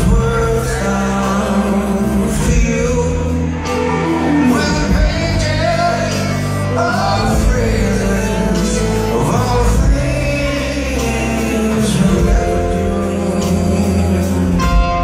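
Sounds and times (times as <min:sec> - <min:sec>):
live rock band playing: 0:00.0 - 0:15.0
man singing: 0:00.0 - 0:15.0.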